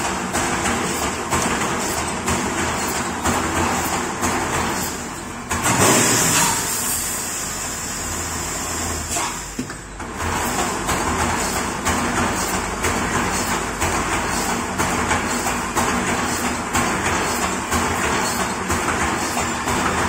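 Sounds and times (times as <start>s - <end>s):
welding machine clacking: 0.0s - 7.1s, 9.1s - 20.0s.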